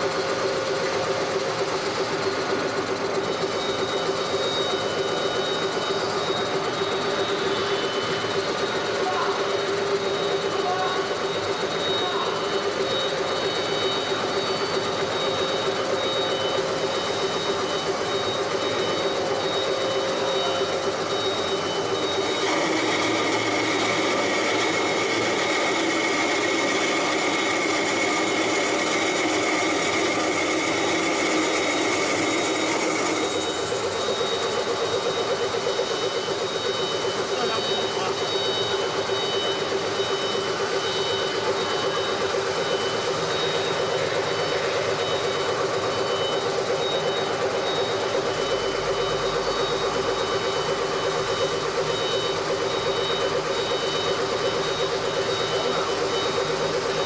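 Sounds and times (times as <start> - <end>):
lathe running with whine: 0.0 - 57.0.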